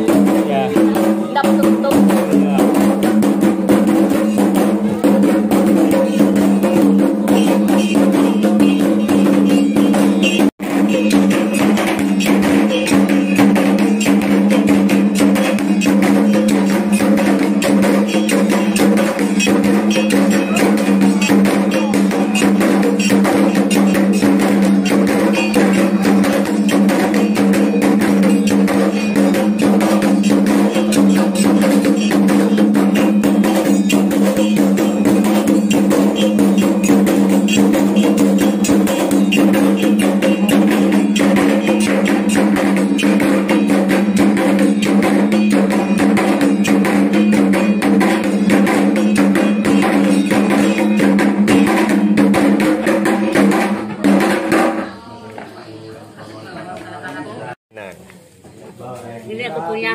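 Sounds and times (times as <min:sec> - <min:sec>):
drums beaten in fast rhythm: 0:00.0 - 0:55.1.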